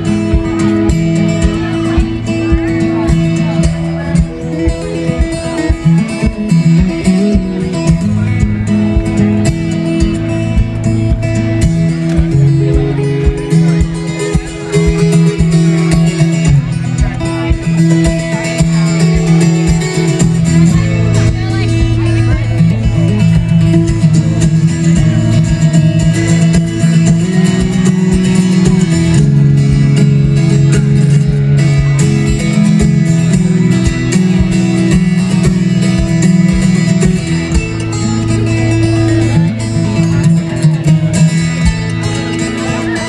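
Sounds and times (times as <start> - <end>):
amplified acoustic guitar fingerstyle: 0.0 - 43.0.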